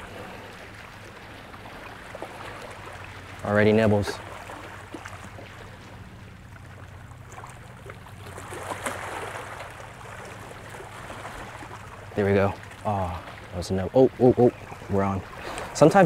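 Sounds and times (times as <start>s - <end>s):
steady low hum: 0.0s - 16.0s
water lapping at the shore: 0.0s - 16.0s
wind: 0.0s - 16.0s.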